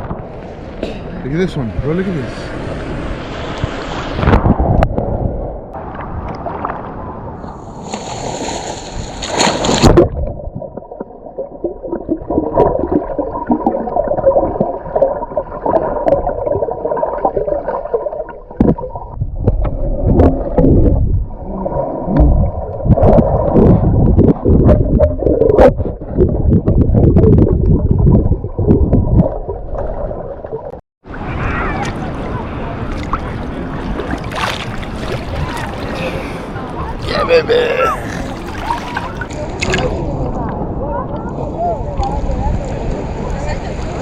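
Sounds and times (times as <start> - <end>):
muffled underwater wash: 0.0 - 37.0, 38.2 - 44.0
water gurgling and sloshing: 0.0 - 44.0.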